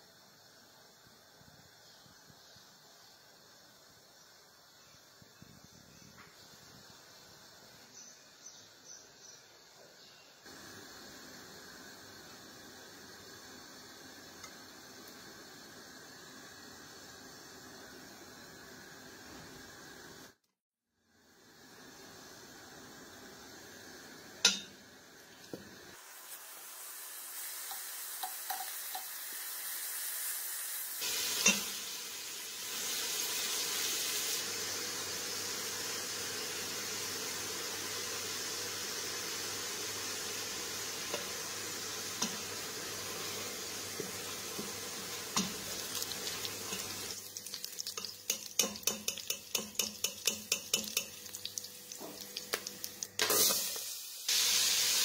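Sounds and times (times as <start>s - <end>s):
meat sizzling in a pot: 10.0s - 20.4s, 21.0s - 55.0s.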